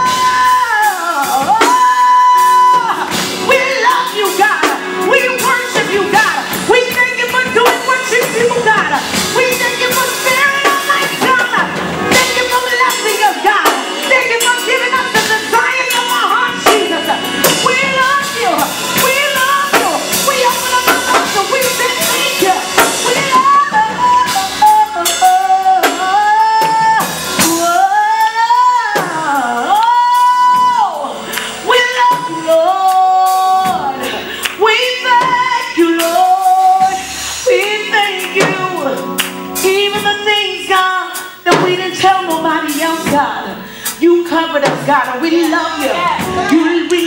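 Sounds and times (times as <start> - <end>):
live instrumental accompaniment: 0.0 - 47.0
woman singing into microphone: 0.0 - 47.0.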